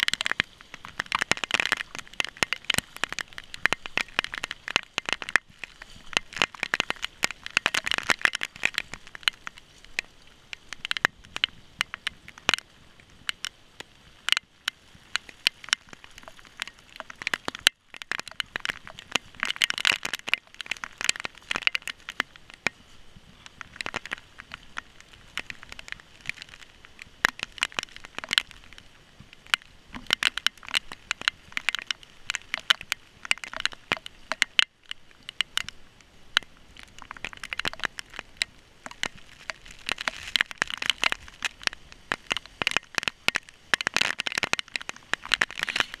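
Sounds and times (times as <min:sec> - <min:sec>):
heavy rain pelting down: 0:00.0 - 0:46.0.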